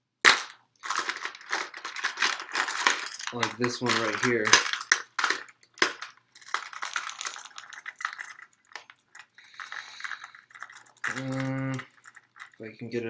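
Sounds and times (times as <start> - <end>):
plastic lures clattering in tackle box: 0.8 - 12.6.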